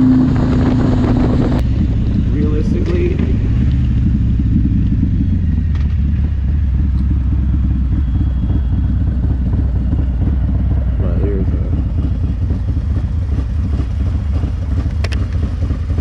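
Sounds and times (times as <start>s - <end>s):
motorcycle engine deep rumble: 0.0s - 16.0s.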